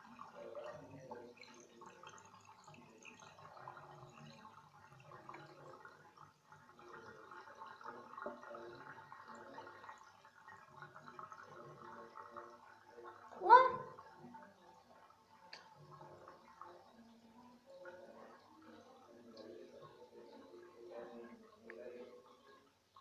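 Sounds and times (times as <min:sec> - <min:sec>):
water gurgling down a drain: 0:00.0 - 0:23.0.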